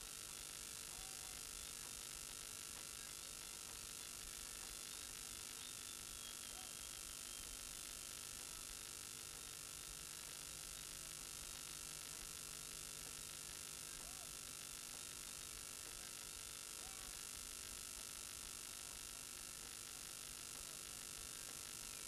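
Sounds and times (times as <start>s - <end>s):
electrical hum: 0.0s - 22.0s
faint steady hiss: 0.0s - 22.0s.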